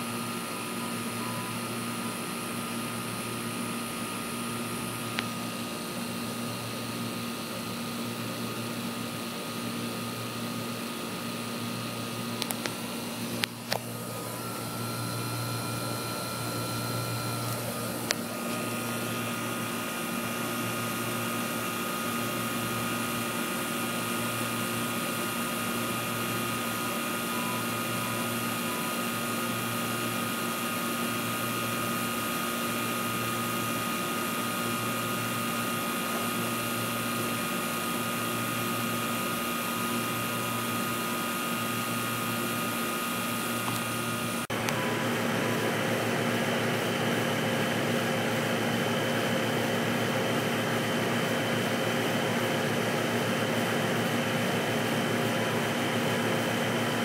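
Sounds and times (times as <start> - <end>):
air conditioner unit humming: 0.0 - 57.0.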